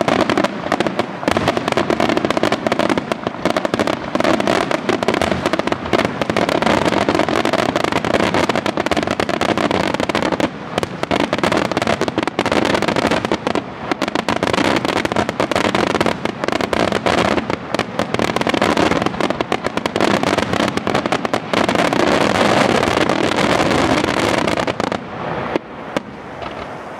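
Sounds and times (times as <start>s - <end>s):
fireworks bursting: 0.0s - 26.9s.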